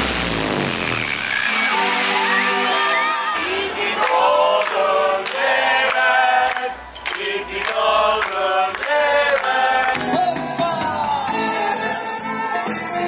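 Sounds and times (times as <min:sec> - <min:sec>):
voices singing together: 0:01.8 - 0:12.5.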